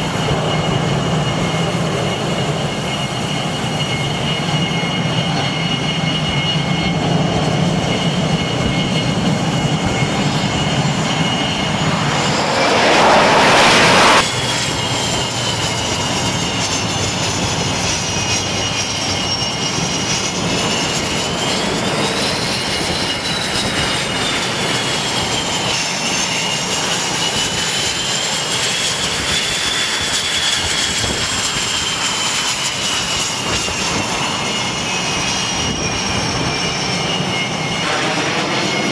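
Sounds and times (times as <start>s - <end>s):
high jet engine whine: 0.0s - 38.9s
jet engines running: 0.0s - 38.9s
rushing jet blast: 0.0s - 38.9s.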